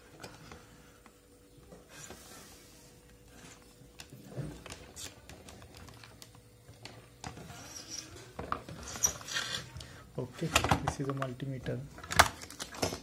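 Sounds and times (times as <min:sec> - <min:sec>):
handling noise of electronics: 0:00.0 - 0:13.0.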